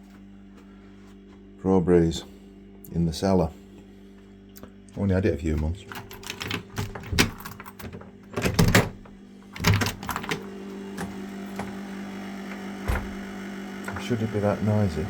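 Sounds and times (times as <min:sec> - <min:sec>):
dehumidifier humming: 0:00.1 - 0:15.0.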